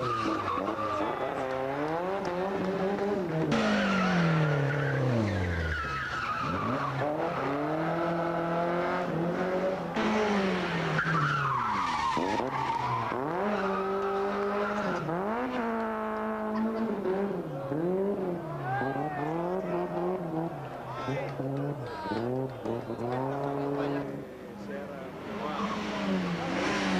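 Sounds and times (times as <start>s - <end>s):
rally car engines revving: 0.0s - 26.9s.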